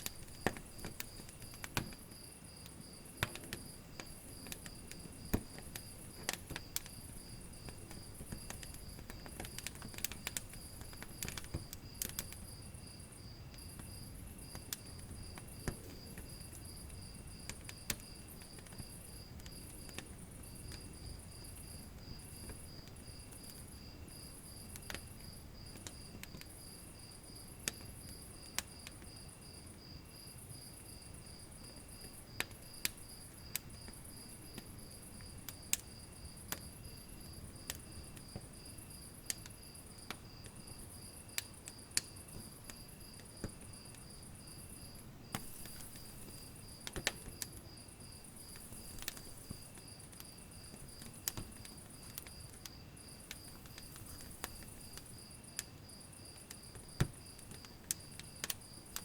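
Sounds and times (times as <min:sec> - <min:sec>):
insects chirping: 0:00.0 - 0:59.0
wood fire crackling: 0:00.0 - 0:59.0.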